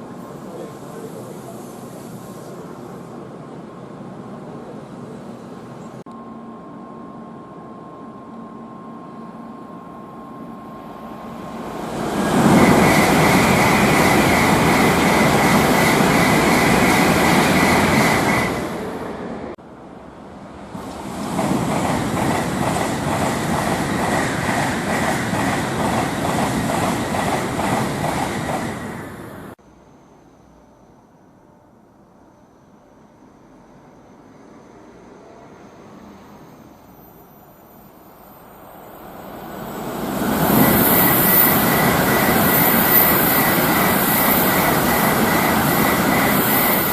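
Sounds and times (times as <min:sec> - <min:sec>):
high-speed train passing: 0:00.0 - 0:46.9.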